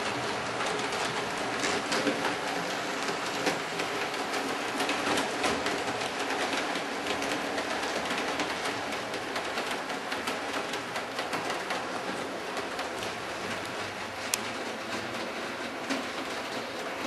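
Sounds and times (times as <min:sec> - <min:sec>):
wheels clicking over rail joints: 0:00.0 - 0:17.0.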